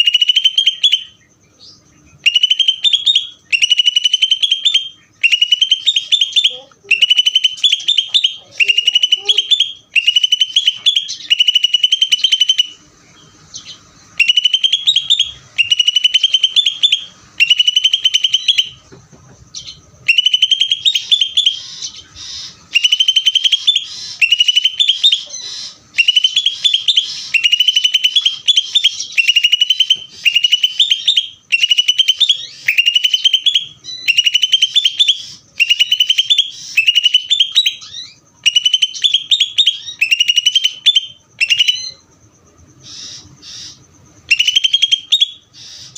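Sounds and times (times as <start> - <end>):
bird singing rapid rising notes: 0.0 - 18.8, 19.5 - 42.0.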